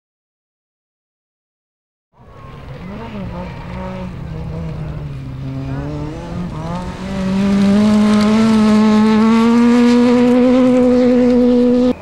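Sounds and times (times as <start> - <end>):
rally car engine at full throttle: 2.2 - 12.0.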